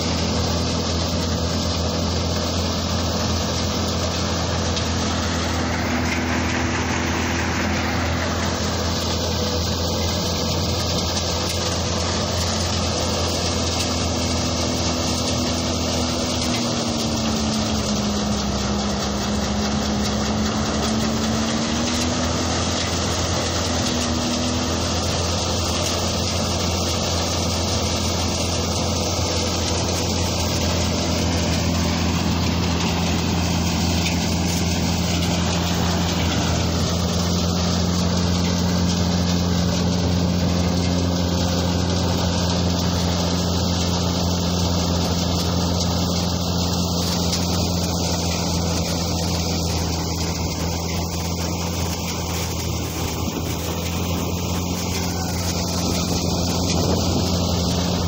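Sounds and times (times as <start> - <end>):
engine hum: 0.0 - 58.0
thresher drum and blower: 0.0 - 58.0.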